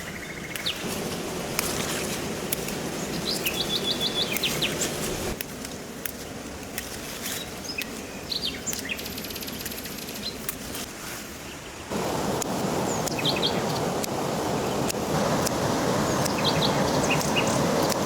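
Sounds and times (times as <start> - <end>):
birds chirping: 0.0 - 5.4, 7.3 - 10.5, 11.4 - 18.0
outdoor background hiss: 0.0 - 18.0.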